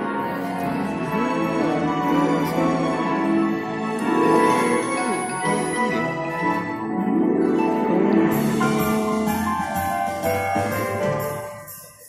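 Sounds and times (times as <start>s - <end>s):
soundtrack music with held notes: 0.0s - 12.0s.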